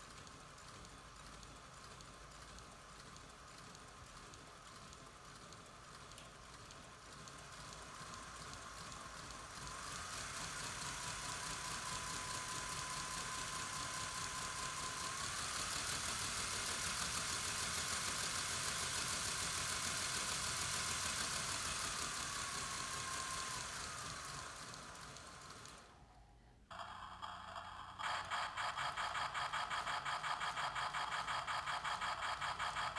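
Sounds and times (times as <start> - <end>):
model train motor whining: 0.1 - 26.1, 26.7 - 32.9.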